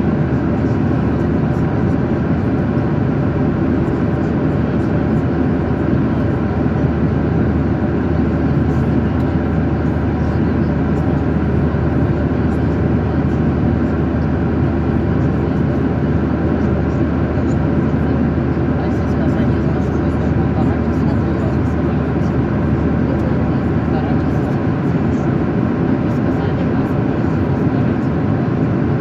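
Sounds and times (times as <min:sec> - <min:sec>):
airliner cabin engine rush: 0:00.0 - 0:29.0.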